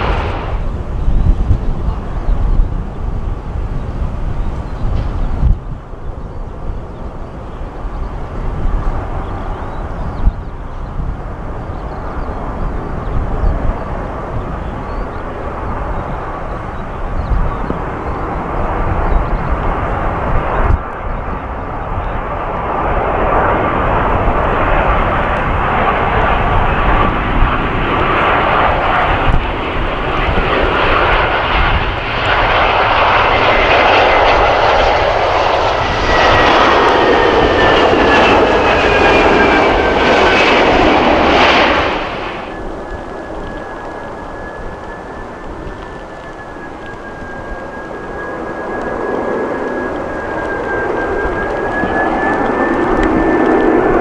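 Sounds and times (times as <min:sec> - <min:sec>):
gusty wind on microphone: 0:00.0 - 0:54.0
rushing jet engine noise: 0:00.0 - 0:54.0.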